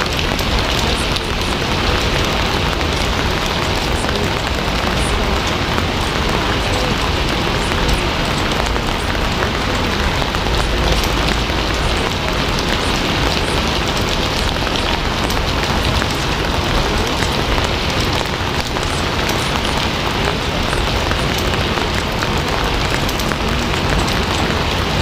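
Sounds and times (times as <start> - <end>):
heavy rain on a hard surface: 0.0 - 25.0.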